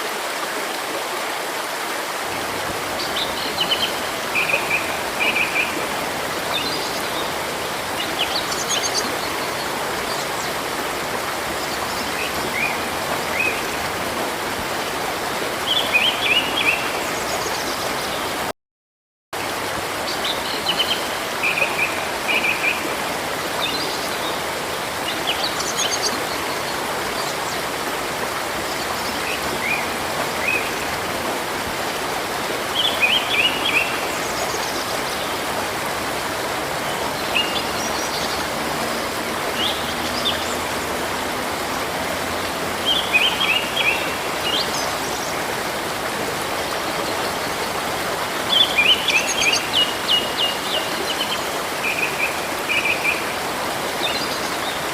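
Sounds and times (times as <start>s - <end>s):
stream flowing: 0.0s - 18.5s, 19.4s - 54.9s.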